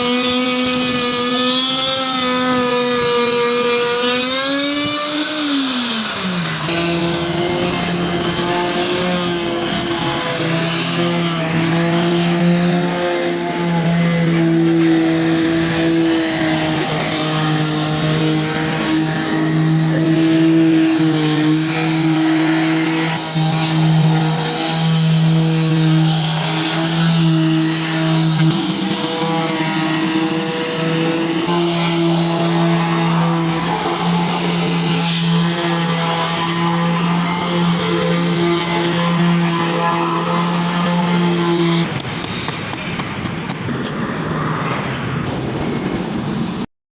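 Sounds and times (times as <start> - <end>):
wood router motor whining: 0.0 - 46.6.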